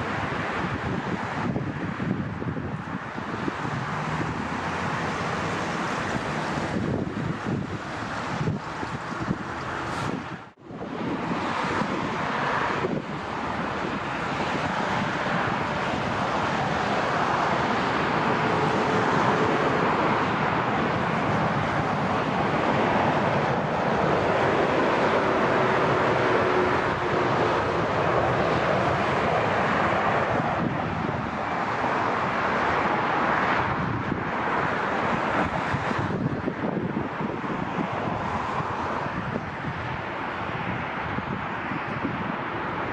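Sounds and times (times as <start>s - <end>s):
jet engine rush: 0.0s - 42.9s
wind buffeting microphone: 0.0s - 42.9s.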